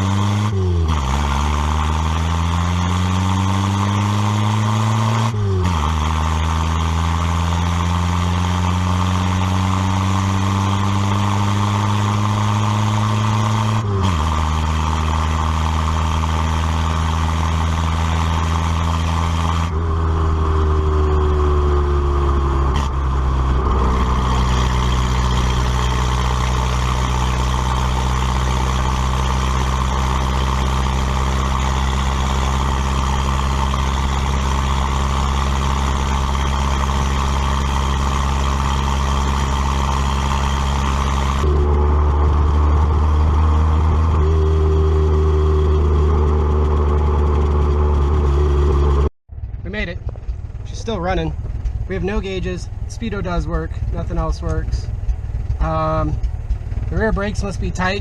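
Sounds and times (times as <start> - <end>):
car engine running with misfire: 0.0 - 58.0.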